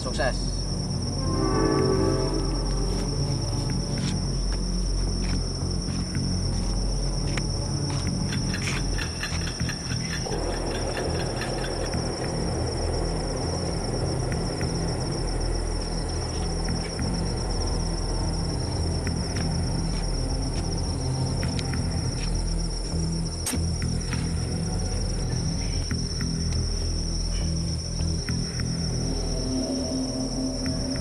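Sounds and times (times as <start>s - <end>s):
crickets trilling: 0.0s - 31.0s
steady low hum: 0.4s - 31.0s.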